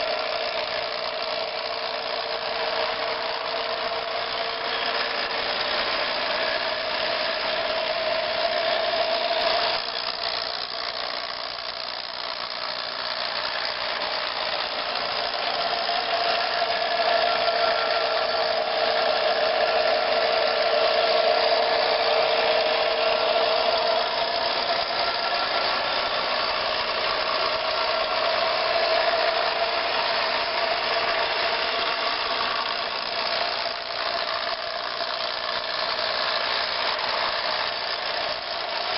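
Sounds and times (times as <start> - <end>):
mechanical whine: 0.0 - 38.9
train running: 0.0 - 38.9.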